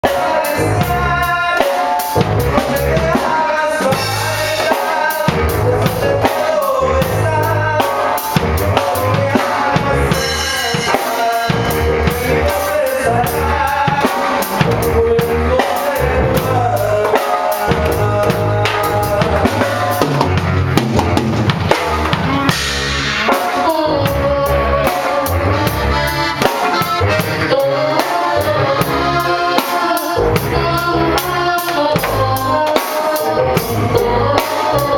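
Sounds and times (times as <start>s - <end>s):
drum kit steady beat: 0.0s - 34.9s
live band playing instrumental: 0.0s - 34.9s.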